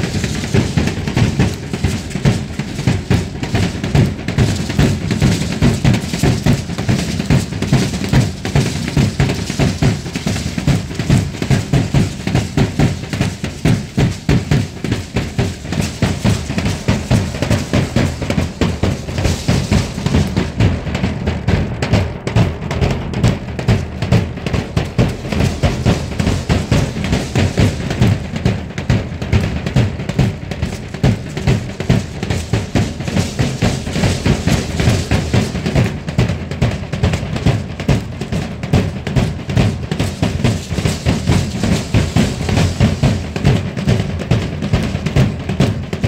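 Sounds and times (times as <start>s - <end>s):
bass drum strokes: 0.0s - 46.0s
snare-like drum hits: 0.0s - 46.0s.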